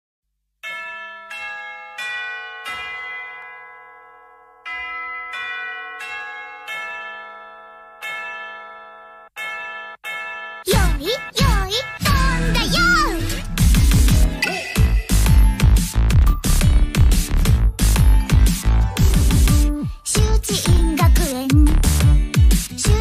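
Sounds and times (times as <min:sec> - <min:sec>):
bell-like melody: 0:00.6 - 0:21.3.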